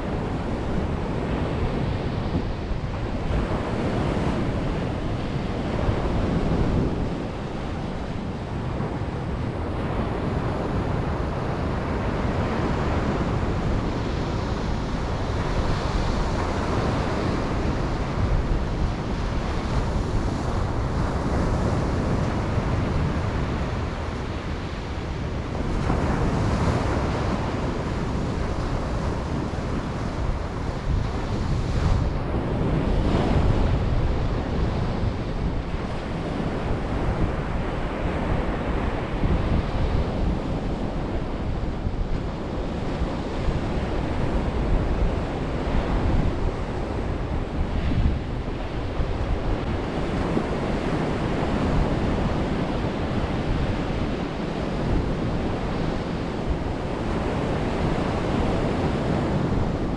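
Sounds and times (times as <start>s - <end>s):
ocean surf breaking on beach: 0.0s - 59.9s
wind on microphone: 0.0s - 59.9s.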